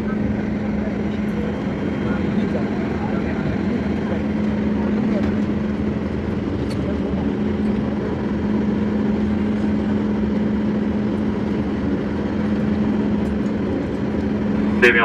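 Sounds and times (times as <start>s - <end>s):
airliner cabin drone: 0.0s - 15.0s.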